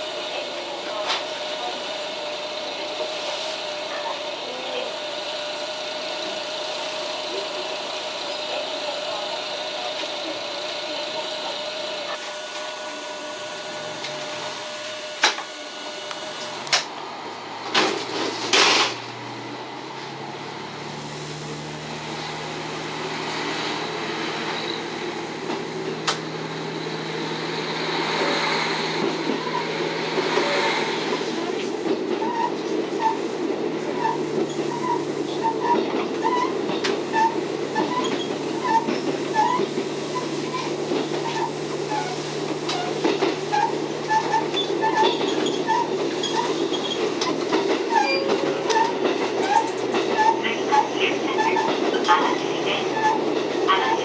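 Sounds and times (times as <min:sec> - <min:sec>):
diesel railcar engine: 0:00.0 - 0:54.0.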